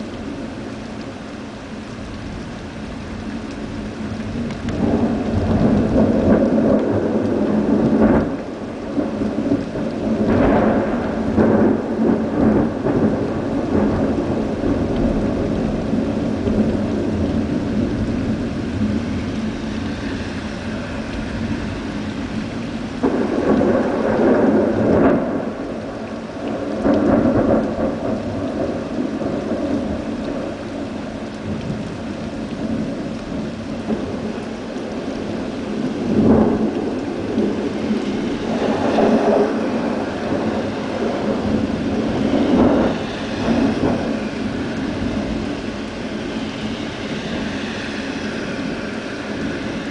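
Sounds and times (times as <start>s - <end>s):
rain hissing: 0.0s - 49.9s
thunder rumbling: 2.2s - 49.9s.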